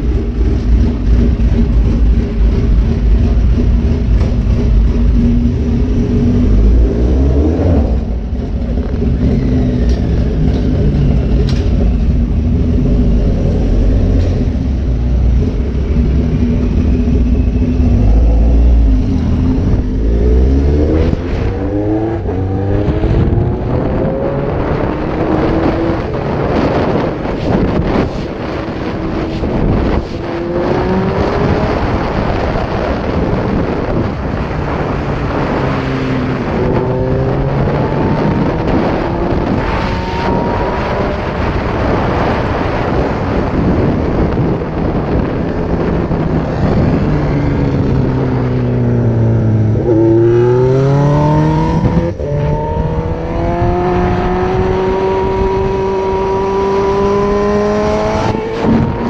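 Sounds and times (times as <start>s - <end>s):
motorcycle engine accelerating: 0.0s - 59.0s
wind rush on microphone: 0.0s - 59.0s.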